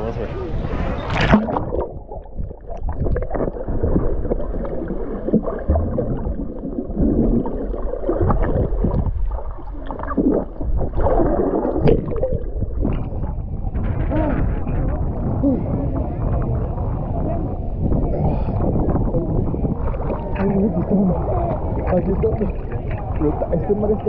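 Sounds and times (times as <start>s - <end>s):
underwater sloshing and bubbling: 0.0s - 24.0s.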